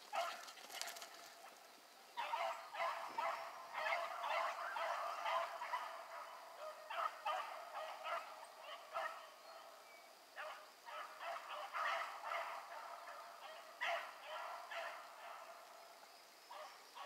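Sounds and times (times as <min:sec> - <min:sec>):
hounds baying: 0:00.1 - 0:01.6, 0:02.2 - 0:09.8, 0:10.4 - 0:15.8.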